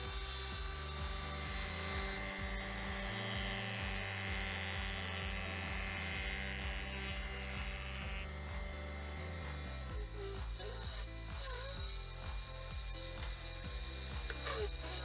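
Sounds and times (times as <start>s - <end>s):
cutterhead cutting wood: 0.0s - 15.0s
jointer motor whine: 0.0s - 15.0s.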